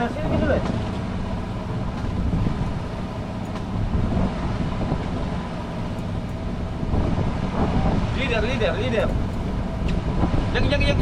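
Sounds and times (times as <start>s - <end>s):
boat engine rumbling: 0.0s - 11.0s
sea noise: 0.0s - 11.0s
wind: 0.0s - 11.0s.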